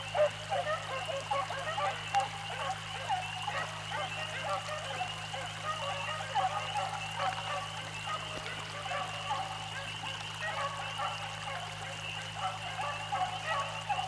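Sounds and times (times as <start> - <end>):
dogs baying: 0.1 - 14.0.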